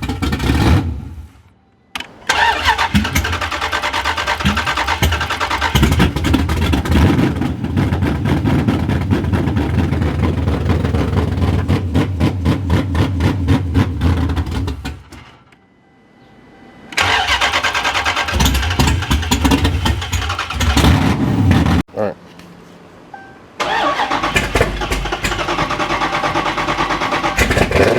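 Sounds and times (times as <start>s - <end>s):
car engine cranking and stumbling: 0.0s - 1.4s, 2.0s - 15.5s, 16.9s - 21.9s, 23.6s - 27.9s.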